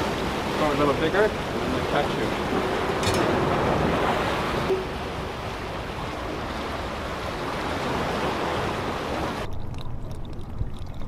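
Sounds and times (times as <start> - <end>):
surf washing against rocks: 0.0 - 9.5.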